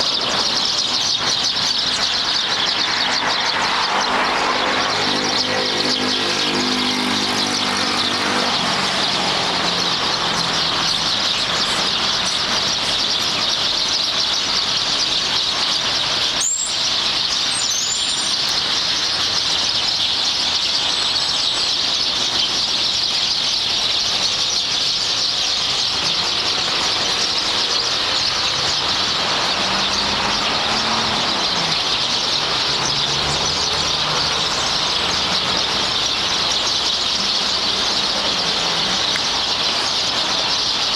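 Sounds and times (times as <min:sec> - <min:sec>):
flock of small birds chattering: 0:00.0 - 0:40.9
road traffic engine hum: 0:00.0 - 0:40.9.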